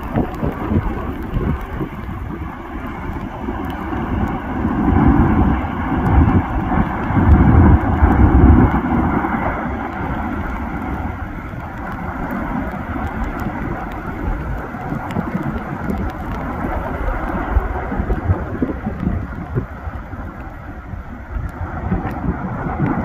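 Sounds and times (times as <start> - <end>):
volcano roaring rumble: 0.0 - 23.0
wind on microphone: 0.0 - 23.0.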